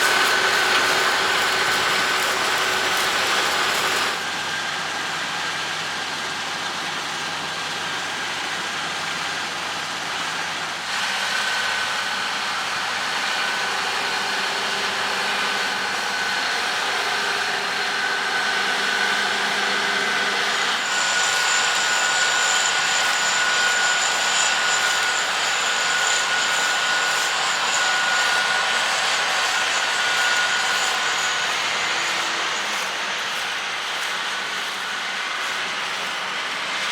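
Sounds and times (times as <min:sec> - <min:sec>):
combine harvester running: 0:00.0 - 0:36.9.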